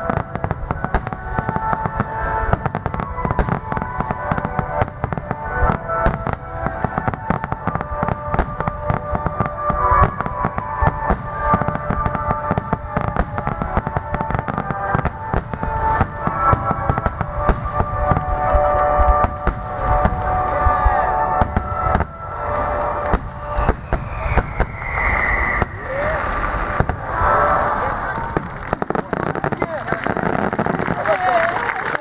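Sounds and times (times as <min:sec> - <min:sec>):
music playing: 0:00.0 - 0:31.7
fireworks bursting and crackling: 0:00.0 - 0:32.0.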